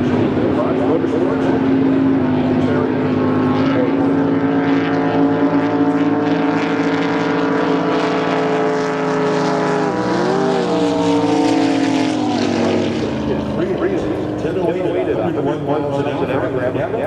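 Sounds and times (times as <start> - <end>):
drag boat engine running: 0.0 - 17.0.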